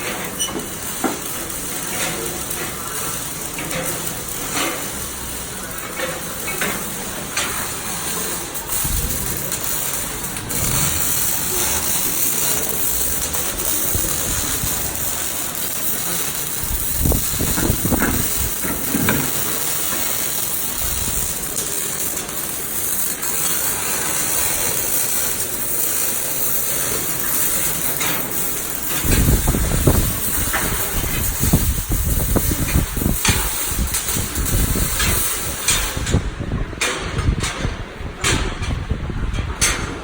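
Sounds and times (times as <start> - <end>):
welding arc crackling hiss: 0.0 - 39.9.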